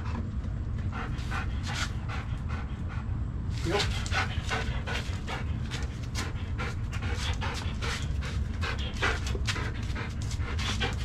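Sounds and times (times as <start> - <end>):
dog panting: 0.0 - 11.0
low steady rumble: 0.0 - 11.0.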